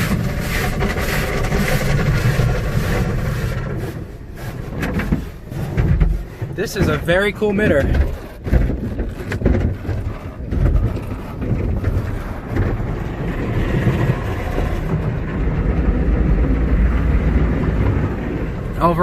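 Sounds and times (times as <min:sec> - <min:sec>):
car wash brushes and water rumbling: 0:00.0 - 0:19.0.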